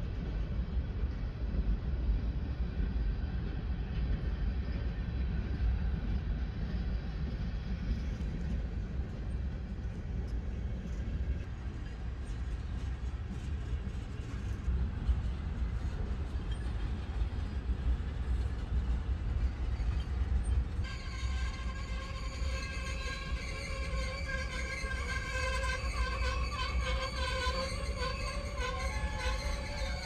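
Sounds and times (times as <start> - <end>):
passing train rumble: 0.0 - 30.0.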